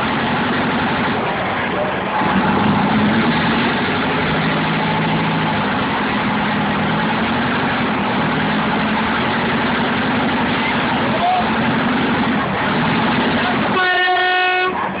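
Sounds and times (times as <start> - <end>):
ferry engine humming: 0.0 - 15.0.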